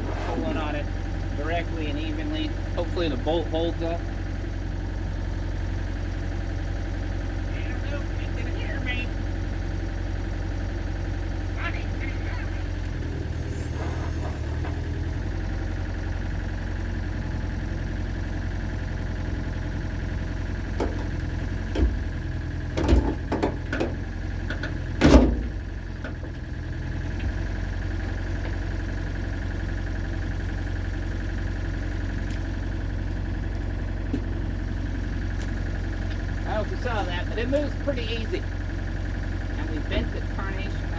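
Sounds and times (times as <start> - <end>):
excavator engine idling: 0.0 - 40.9.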